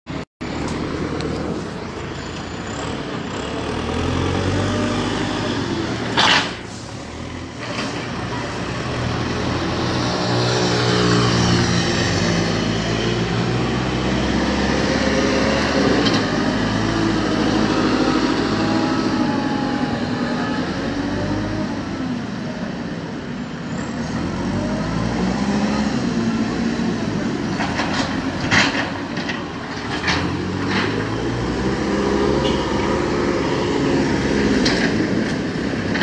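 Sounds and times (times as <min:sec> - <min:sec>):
traffic passing: 0:00.1 - 0:36.0.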